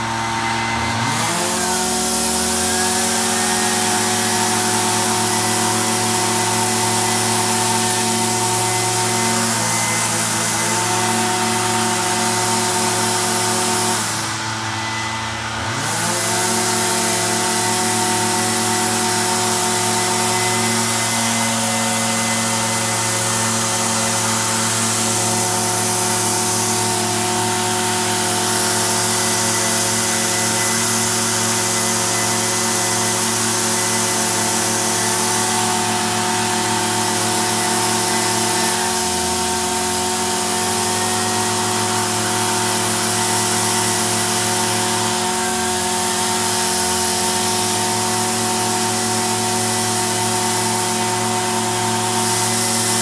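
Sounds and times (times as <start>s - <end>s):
small two-stroke engine running: 0.0s - 53.0s.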